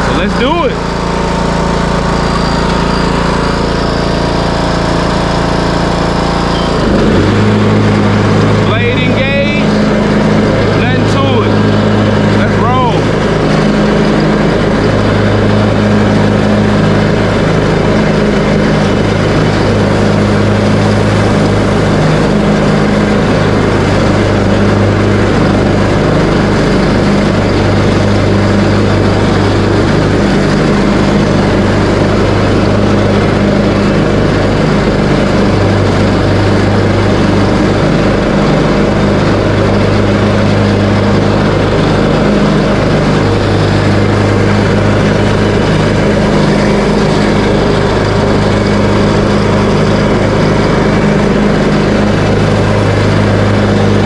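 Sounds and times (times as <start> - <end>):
lawn tractor engine humming: 0.0 - 54.0.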